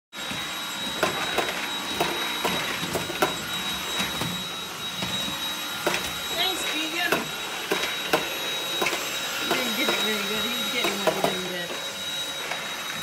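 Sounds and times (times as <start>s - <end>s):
stick vacuum whining: 0.2s - 13.0s.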